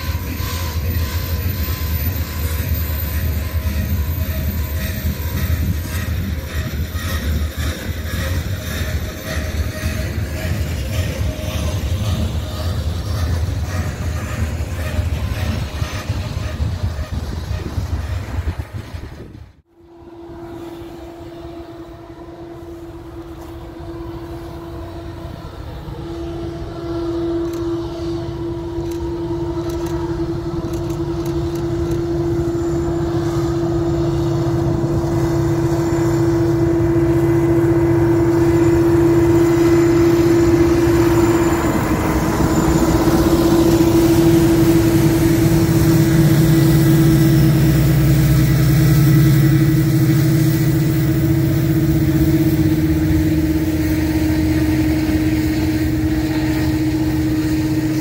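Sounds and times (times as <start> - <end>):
freight cars rumbling on rails: 0.0 - 58.0
locomotive engines droning: 0.0 - 58.0.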